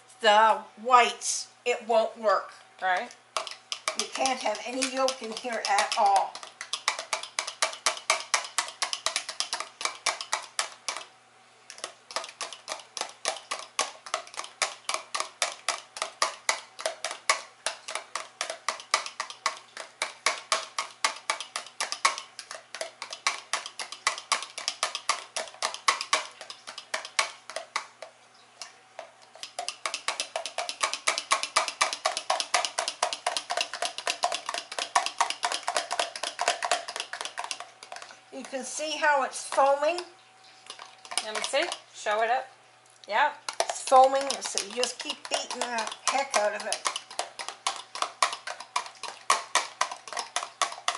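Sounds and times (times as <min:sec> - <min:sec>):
whisk clicking in plastic container: 0:02.8 - 0:11.1, 0:11.7 - 0:41.9, 0:43.4 - 0:50.9.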